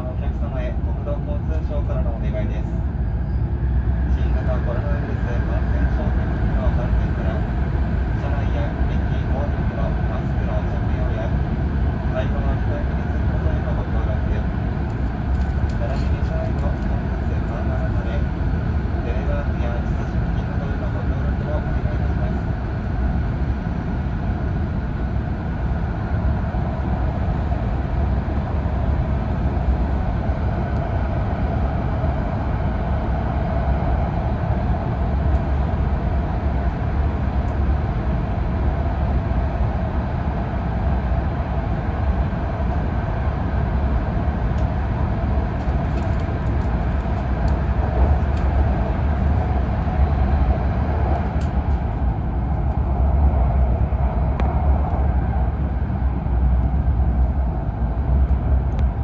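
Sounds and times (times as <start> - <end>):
train running noise from inside: 0.0 - 59.0.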